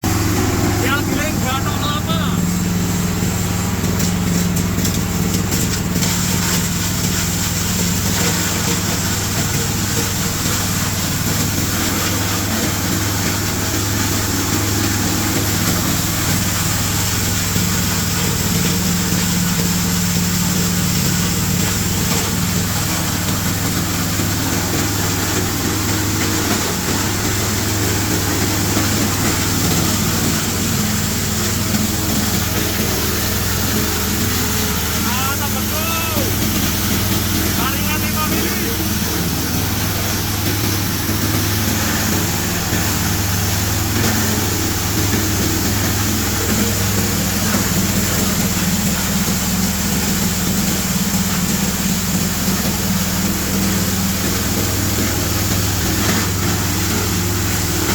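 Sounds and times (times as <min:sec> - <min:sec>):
shredder grinding: 0:00.0 - 0:57.9.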